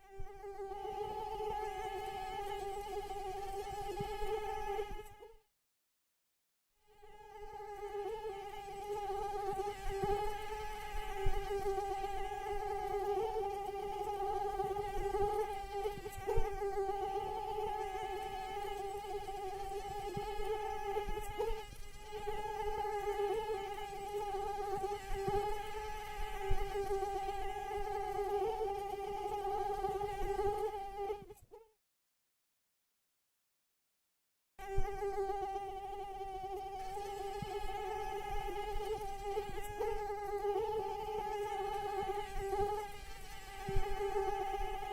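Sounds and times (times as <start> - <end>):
mosquito wings whining: 0.0 - 5.3, 7.0 - 31.7, 34.6 - 44.9.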